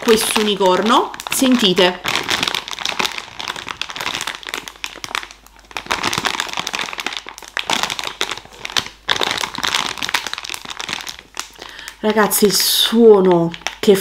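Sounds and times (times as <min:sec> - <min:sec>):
plastic pouch crinkling: 0:00.0 - 0:14.0.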